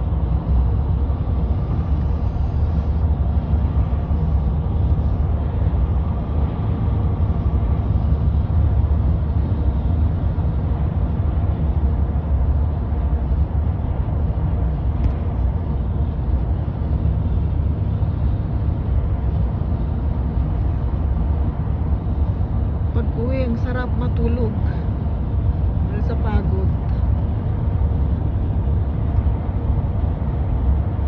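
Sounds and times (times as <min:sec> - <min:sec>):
car cabin road and engine rumble: 0:00.0 - 0:31.0.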